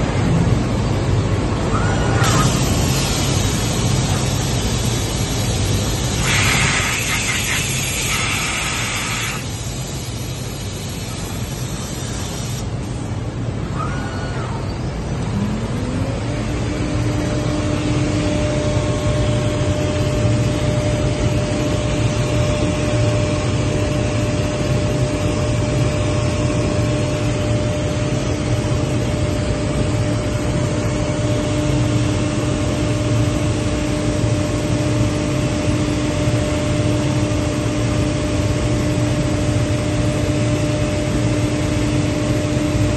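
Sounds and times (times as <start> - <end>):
machine hum and rush: 0.0 - 42.9.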